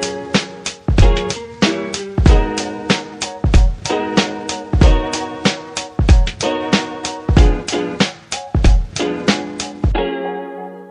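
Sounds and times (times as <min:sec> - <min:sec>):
funky drum beat with chords: 0:00.0 - 0:10.1.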